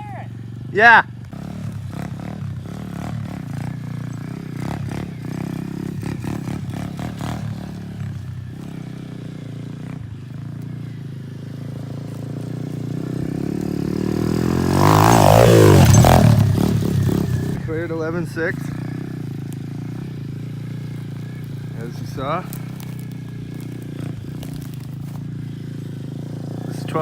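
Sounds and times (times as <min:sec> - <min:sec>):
dirt bike engine: 0:00.0 - 0:27.0.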